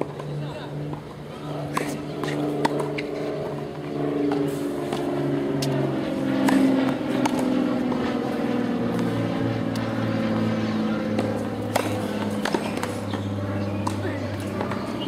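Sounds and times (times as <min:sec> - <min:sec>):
engine humming: 0:00.0 - 0:15.0
tennis ball hit and bouncing: 0:00.0 - 0:15.0.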